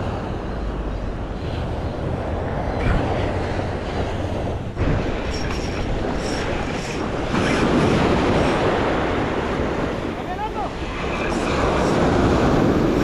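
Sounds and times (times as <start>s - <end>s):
wind on microphone: 0.0s - 13.0s
surf washing onto beach: 1.4s - 13.0s.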